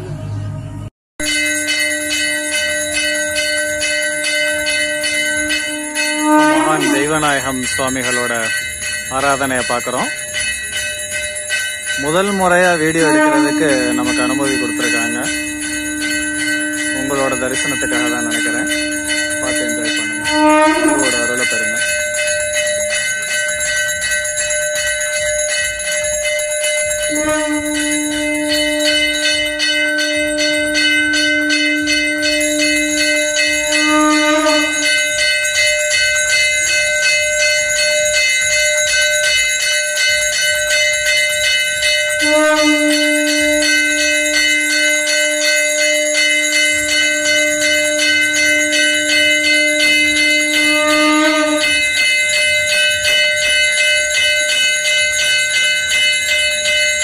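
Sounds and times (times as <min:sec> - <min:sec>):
temple bells ringing fast: 0:00.0 - 0:57.0.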